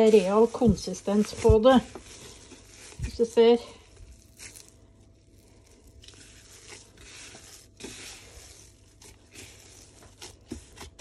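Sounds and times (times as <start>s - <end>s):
plastic glove crinkling: 0.0s - 11.0s
soft squishing: 0.0s - 11.0s.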